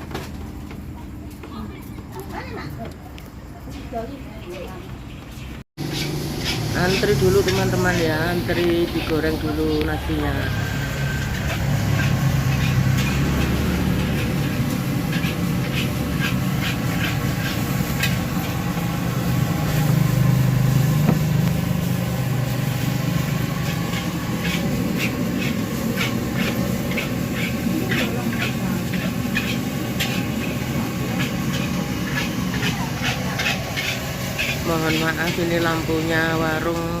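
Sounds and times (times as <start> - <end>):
metal spatula scraping wok: 5.8 - 36.1.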